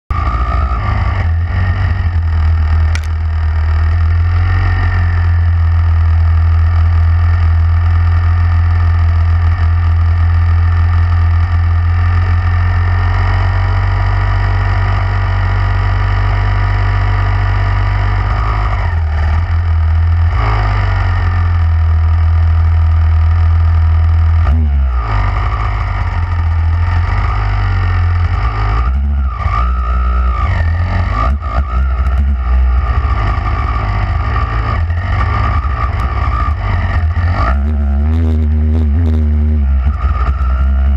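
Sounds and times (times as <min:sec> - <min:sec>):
dirt bike engine revving: 0:00.1 - 0:40.9.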